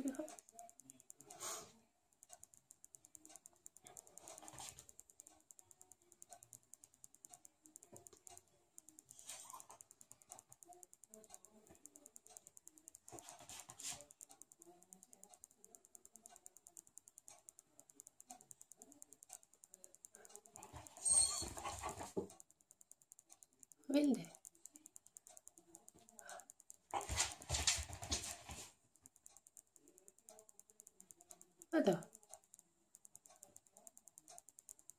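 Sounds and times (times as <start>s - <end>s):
dog eating with clicks and crunches: 0.0s - 34.9s.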